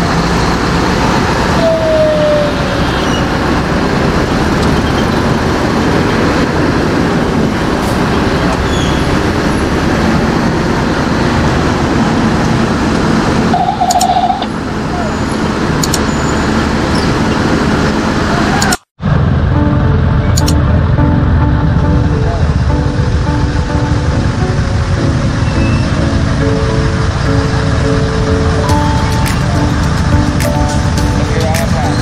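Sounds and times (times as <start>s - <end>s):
road traffic noise: 0.0s - 32.0s
truck diesel engine running: 0.0s - 32.0s.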